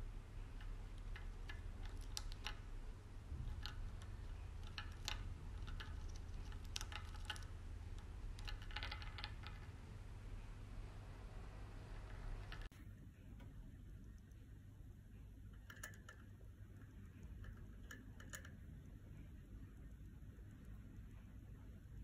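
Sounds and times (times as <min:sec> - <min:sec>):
hamster gnawing nut shell: 0:00.0 - 0:12.7, 0:15.3 - 0:22.0
low steady hum: 0:00.0 - 0:22.0.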